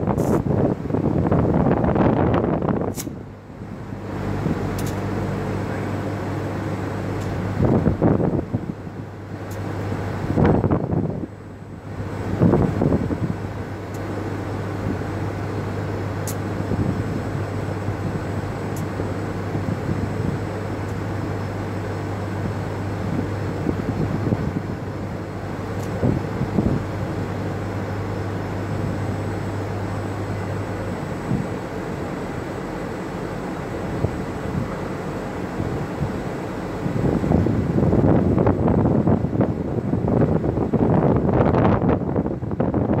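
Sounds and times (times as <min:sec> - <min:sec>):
wind buffeting microphone: 0:00.0 - 0:32.3, 0:33.3 - 0:43.0
constant low hum: 0:00.0 - 0:43.0.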